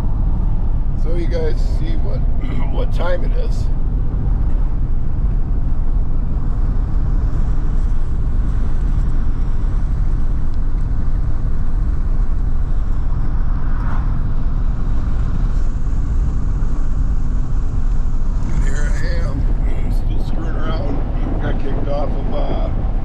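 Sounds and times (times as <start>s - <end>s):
truck engine and tyres rumbling: 0.0s - 23.0s.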